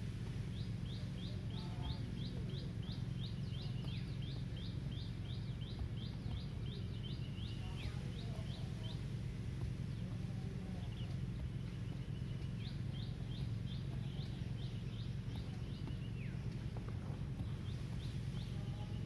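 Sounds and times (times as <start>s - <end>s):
low rumble: 0.0s - 19.0s
songbird singing: 0.0s - 19.0s.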